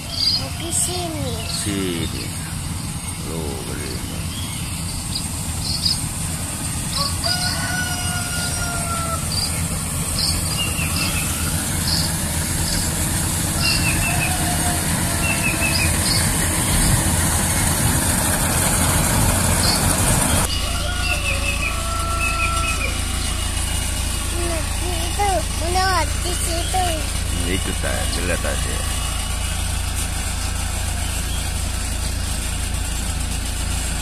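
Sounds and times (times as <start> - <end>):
birds chirping: 0.0 - 32.9
harvester engine droning: 0.0 - 34.0.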